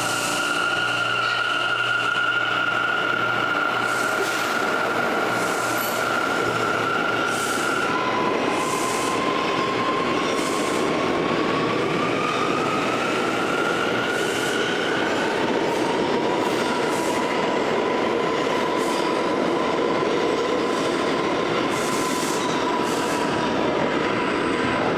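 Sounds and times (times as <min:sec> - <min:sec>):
subway train rumble: 0:00.0 - 0:24.9.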